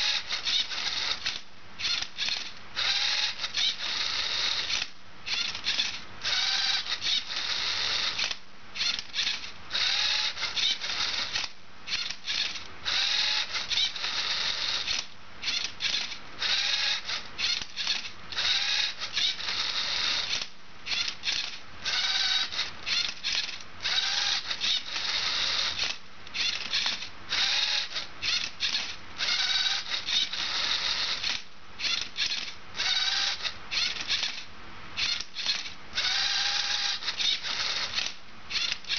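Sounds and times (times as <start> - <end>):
robot motors whirring: 0.0 - 34.4, 35.0 - 38.9.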